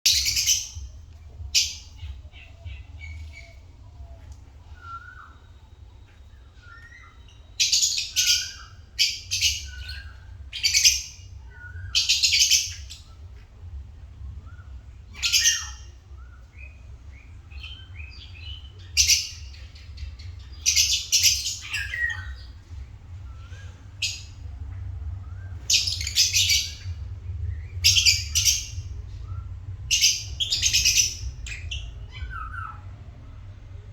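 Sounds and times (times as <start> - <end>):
steady low hum: 0.0 - 33.9
lovebirds screeching: 0.1 - 13.2, 14.5 - 24.5, 25.2 - 33.1
soft bird chirps: 0.1 - 13.6, 14.2 - 33.9.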